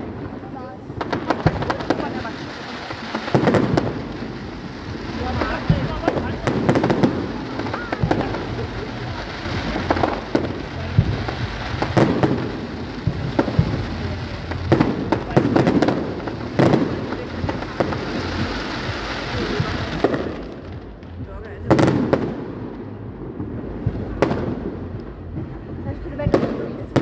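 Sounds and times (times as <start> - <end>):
continuous haze of noise: 0.0 - 27.0
fireworks bursting: 0.0 - 27.0.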